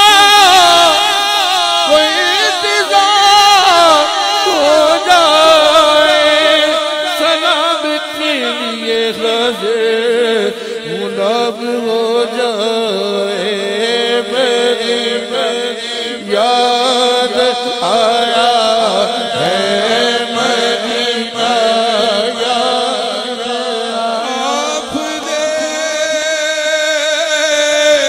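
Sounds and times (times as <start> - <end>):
low held vocal drone: 0.0 - 28.0
man singing ornamented phrases: 0.0 - 28.0.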